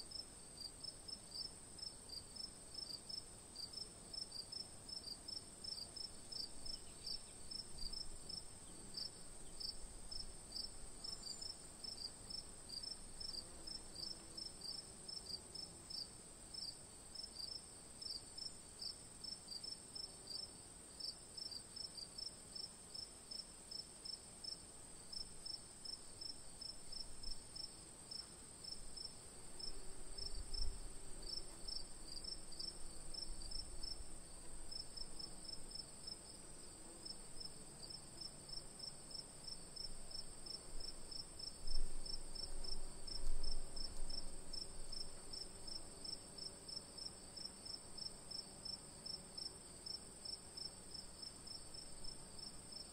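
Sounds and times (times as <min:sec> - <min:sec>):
crickets chirping: 0:01.3 - 0:15.3, 0:15.9 - 0:52.9.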